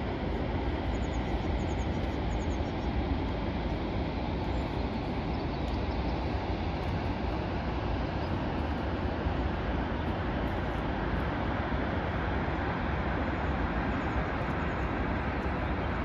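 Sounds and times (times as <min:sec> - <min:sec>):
waterfall roar: 0:00.0 - 0:16.0.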